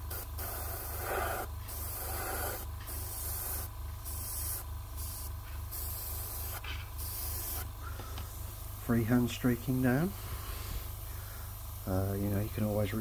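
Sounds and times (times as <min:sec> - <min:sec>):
airbrush spraying hissing bursts: 0:00.0 - 0:13.0
steady low hum: 0:00.0 - 0:13.0.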